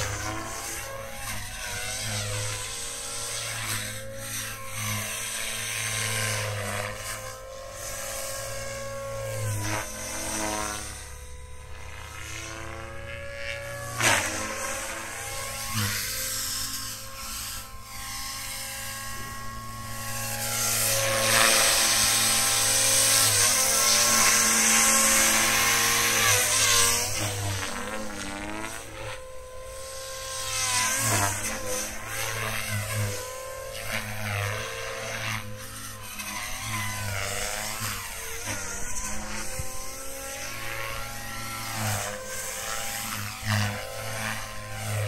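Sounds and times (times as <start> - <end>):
electric motor and gear whine: 0.0 - 45.0
rotor blades whirring: 0.0 - 45.0.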